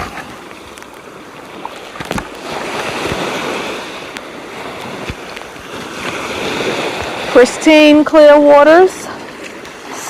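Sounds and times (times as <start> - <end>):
small waves washing at shore: 0.0 - 10.0.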